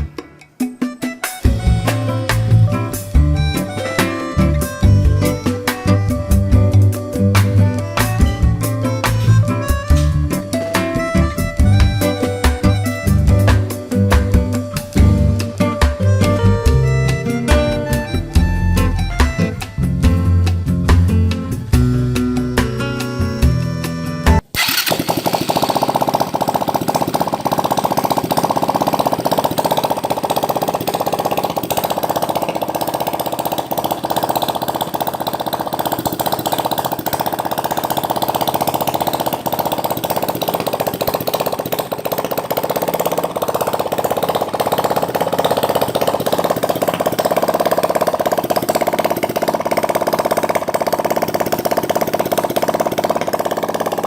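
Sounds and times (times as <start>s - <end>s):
engine running steadily: 1.3s - 54.0s.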